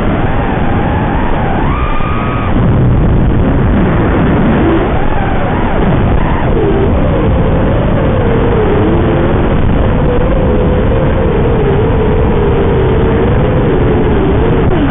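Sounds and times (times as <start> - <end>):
drone motors whining: 0.0 - 14.9
rush of noise: 0.0 - 14.9.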